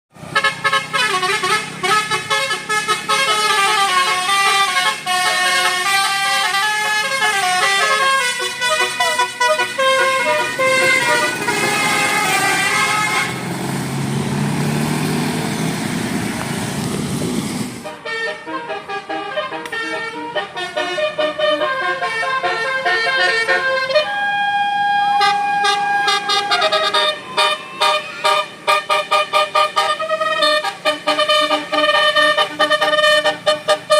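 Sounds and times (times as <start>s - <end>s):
bus engine passing: 0.1s - 33.9s
multi-tone bus horn melody: 0.2s - 13.6s, 17.8s - 33.9s.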